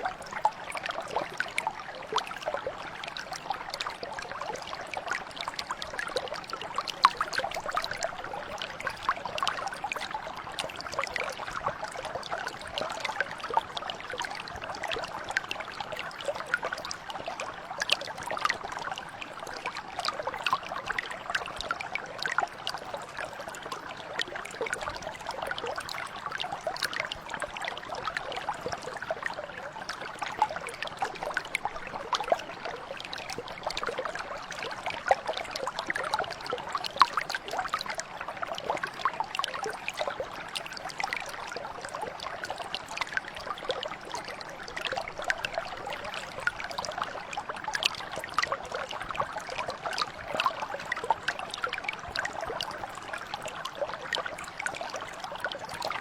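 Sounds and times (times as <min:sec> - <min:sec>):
brook flowing over stones: 0:00.0 - 0:56.0.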